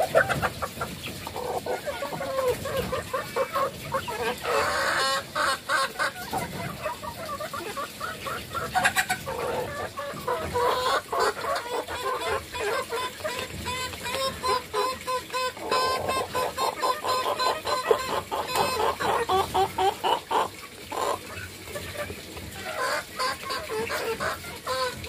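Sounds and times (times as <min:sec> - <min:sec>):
chickens clucking: 0:00.0 - 0:25.0
chickens scuffling: 0:00.0 - 0:25.0.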